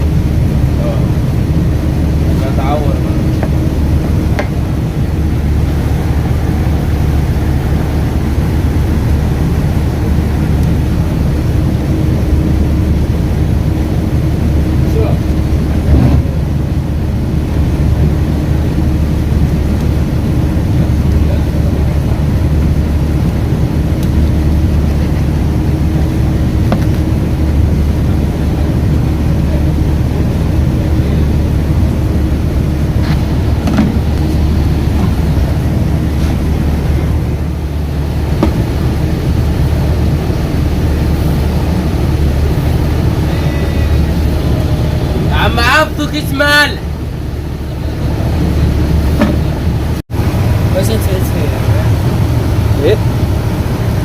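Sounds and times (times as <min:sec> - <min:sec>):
low engine drone: 0:00.0 - 0:54.0.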